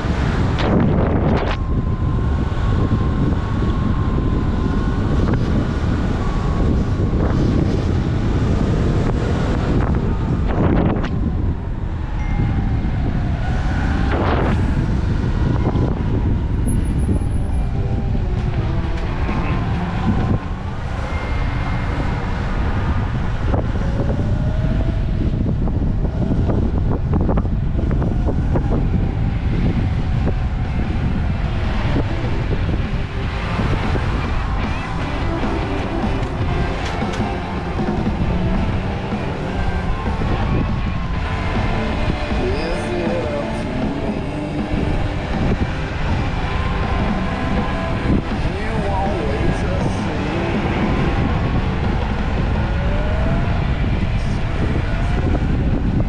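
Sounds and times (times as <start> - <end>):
road traffic passing: 0.0 - 56.0
wind buffeting microphone: 0.0 - 56.0.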